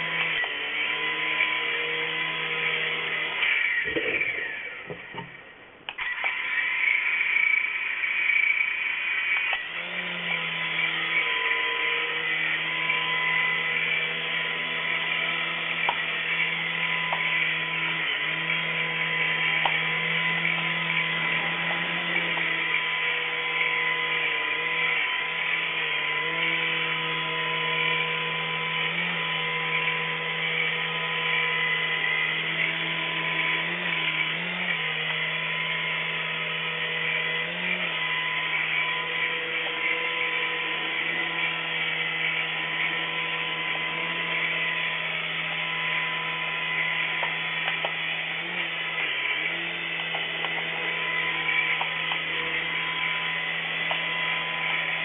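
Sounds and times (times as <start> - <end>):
toy helicopter motors whining: 0.0 - 55.0.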